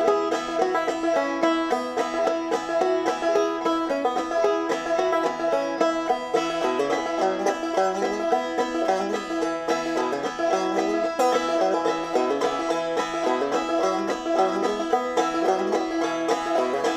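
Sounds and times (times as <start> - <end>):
plucked string instrument music: 0.0 - 16.9.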